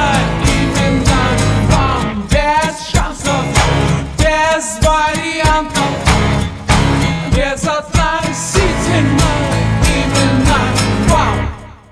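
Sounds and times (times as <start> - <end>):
drums: 0.0 - 11.9
guitar: 0.0 - 11.9
slowed reverb rock song: 0.0 - 11.9.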